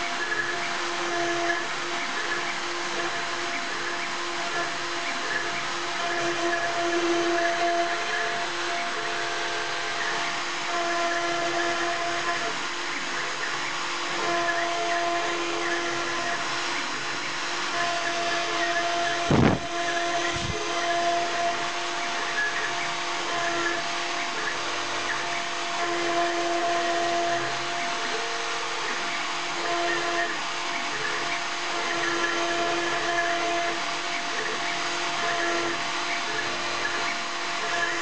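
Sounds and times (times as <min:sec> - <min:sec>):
router spindle whining: 0:00.0 - 0:38.0.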